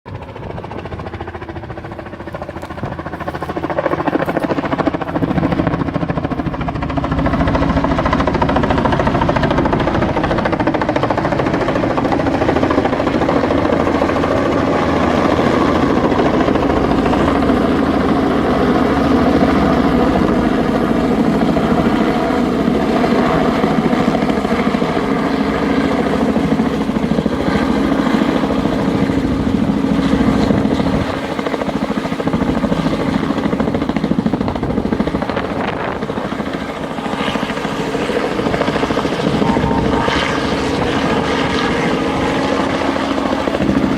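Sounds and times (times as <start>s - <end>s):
helicopter rotor and engine: 0.1s - 43.9s.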